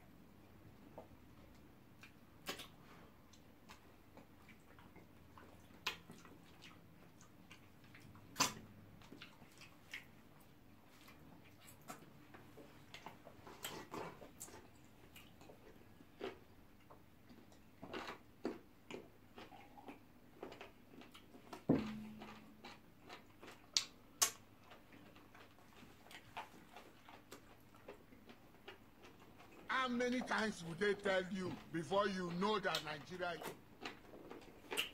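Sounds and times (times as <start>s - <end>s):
wet chewing and smacking: 0.7s - 34.9s.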